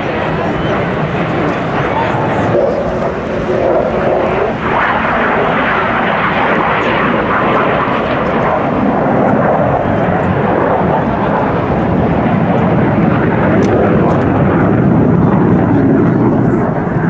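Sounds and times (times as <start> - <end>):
loud jet engine noise: 0.0 - 17.0.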